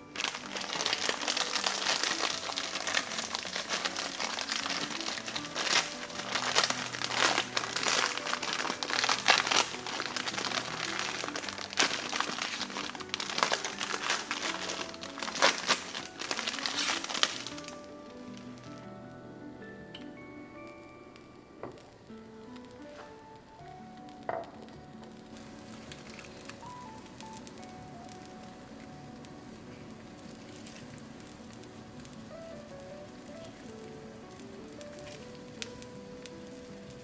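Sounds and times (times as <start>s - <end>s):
plastic packet crinkling: 0.0s - 19.0s, 21.6s - 37.0s
soft background music: 0.0s - 37.0s.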